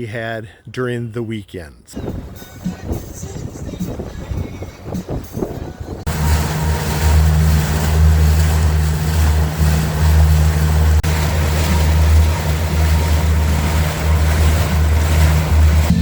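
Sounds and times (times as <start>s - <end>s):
motorboat engine drone: 2.0s - 16.0s
wind and water rushing: 2.0s - 16.0s.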